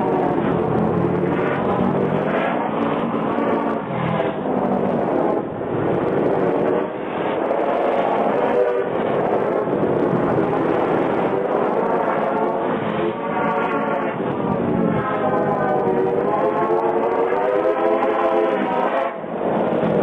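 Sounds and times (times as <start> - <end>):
noisy rumble: 0.0 - 17.8.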